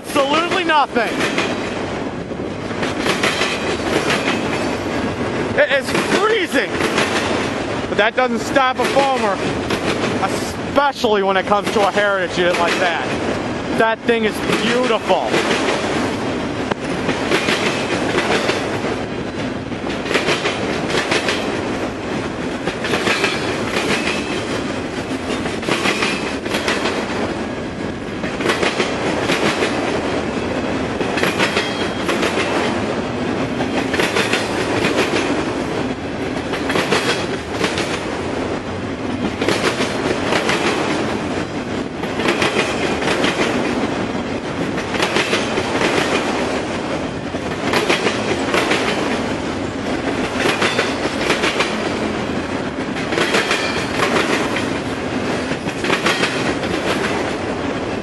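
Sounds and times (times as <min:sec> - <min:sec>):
train wheels clicking over rails: 0:00.0 - 0:58.0.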